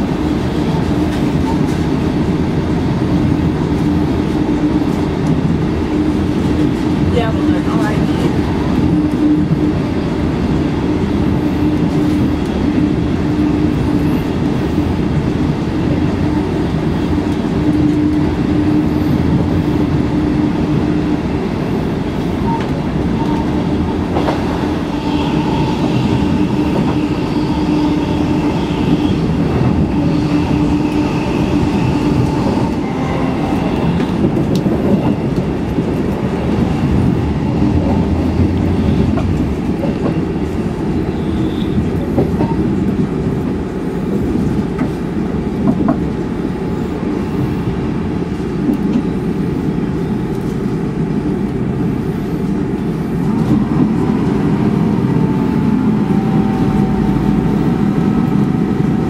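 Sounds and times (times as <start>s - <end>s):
train running rumble: 0.0s - 59.0s.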